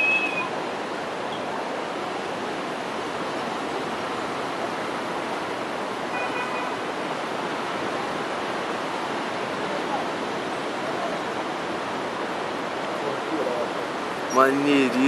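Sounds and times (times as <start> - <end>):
steady outdoor rushing hiss: 0.0 - 15.0.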